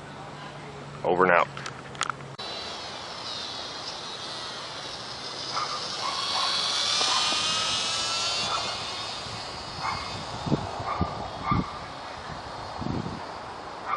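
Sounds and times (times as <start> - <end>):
model plane motor whining: 2.4 - 13.9.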